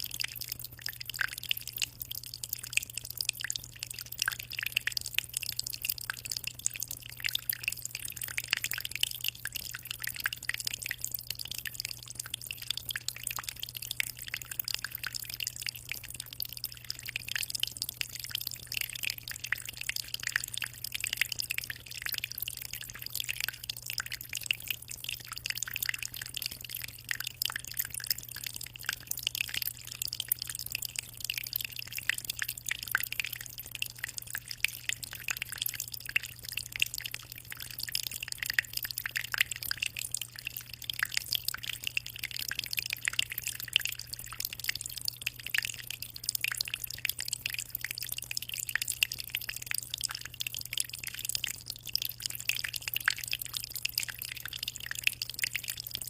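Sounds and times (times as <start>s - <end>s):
aquarium water trickling and splashing: 0.0s - 56.0s.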